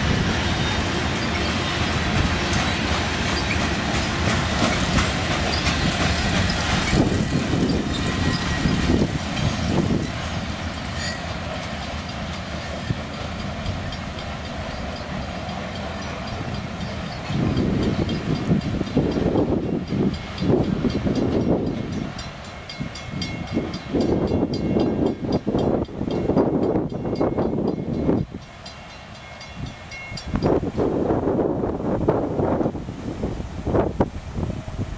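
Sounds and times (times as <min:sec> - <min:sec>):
clickety-clack over rail joints: 0:00.0 - 0:31.6
train wheels rumbling on rails: 0:00.0 - 0:34.9.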